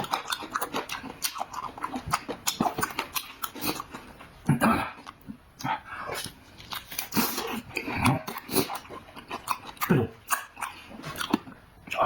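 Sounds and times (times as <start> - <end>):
person chewing food noisily: 0.0 - 12.0.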